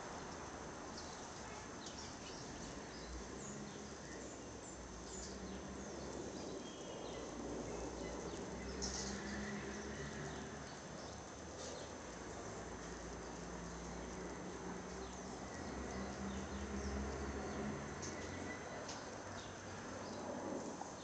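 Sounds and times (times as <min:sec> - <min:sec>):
low outdoor roar: 0:02.6 - 0:21.0.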